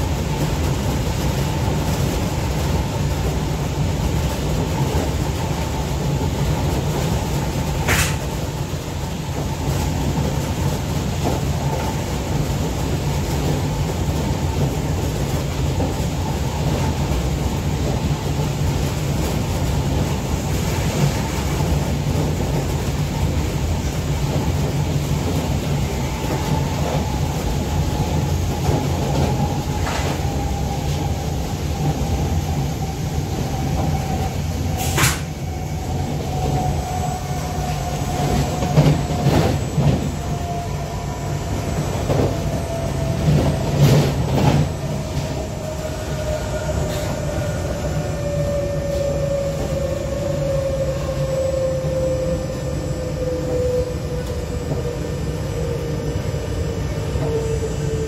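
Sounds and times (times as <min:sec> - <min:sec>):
train wheels and motors rumbling: 0:00.0 - 0:58.0.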